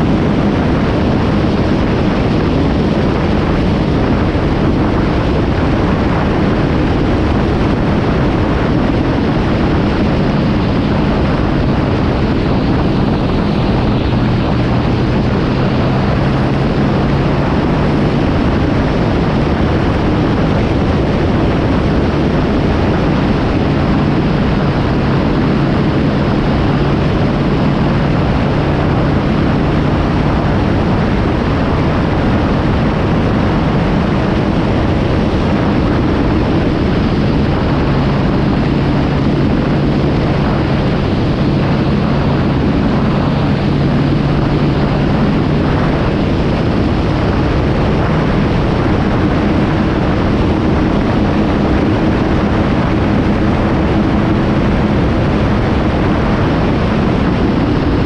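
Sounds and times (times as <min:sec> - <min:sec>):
motorcycle engine cruising: 0:00.0 - 0:58.0
road noise: 0:00.0 - 0:58.0
wind rush: 0:00.0 - 0:58.0.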